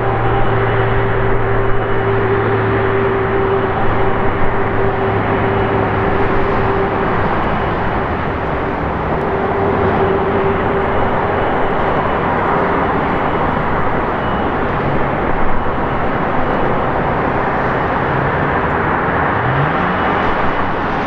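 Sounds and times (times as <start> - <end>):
jet engine roar: 0.0 - 21.0
low hum: 0.0 - 21.0.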